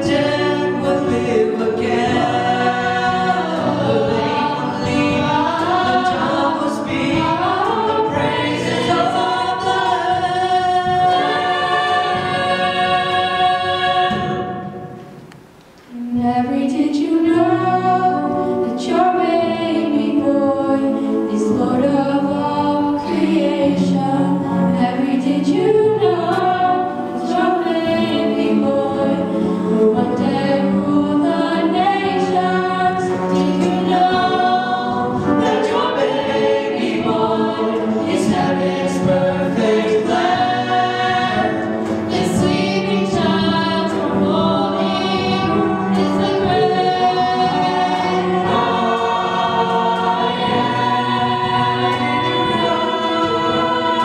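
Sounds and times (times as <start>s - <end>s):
youth choir singing in harmony: 0.0s - 54.0s.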